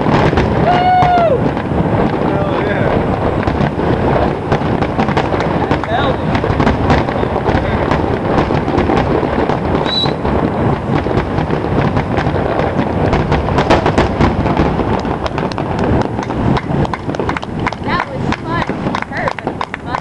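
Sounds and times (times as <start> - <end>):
fireworks bursting with bangs and crackles: 0.0 - 20.0
steady rumble: 0.0 - 20.0.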